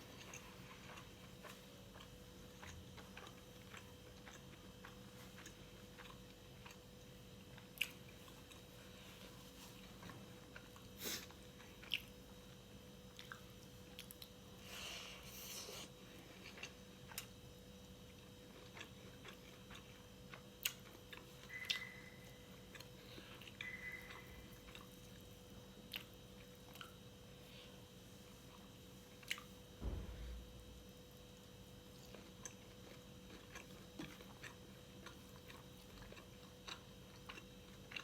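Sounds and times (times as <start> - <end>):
quiet chewing: 0.0 - 29.6, 31.7 - 38.0
faint steady hum: 0.0 - 38.0.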